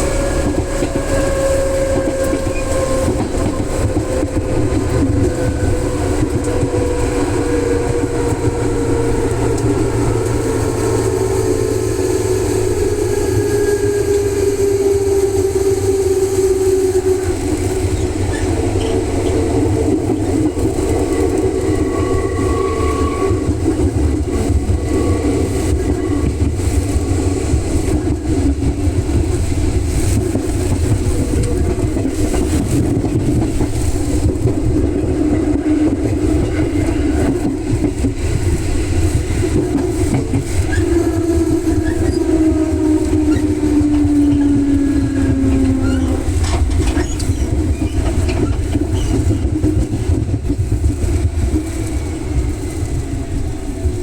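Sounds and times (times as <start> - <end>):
electric train motor whine: 0.0 - 54.0
train wheels rumbling on rail: 0.0 - 54.0.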